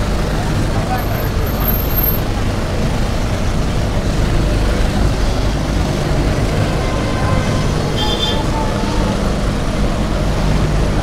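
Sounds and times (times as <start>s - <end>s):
street traffic rumble: 0.0s - 11.0s
vehicle running close by: 0.0s - 11.0s.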